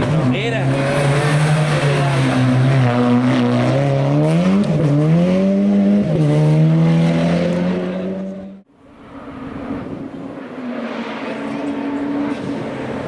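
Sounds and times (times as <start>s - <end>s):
race car engine at full throttle: 0.0s - 13.0s.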